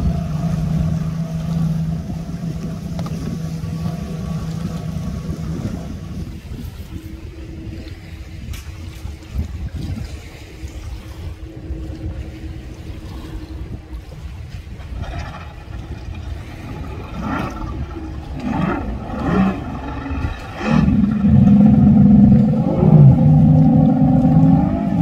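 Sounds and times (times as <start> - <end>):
outboard motor revving: 0.0 - 25.0
wind noise on microphone: 0.0 - 25.0.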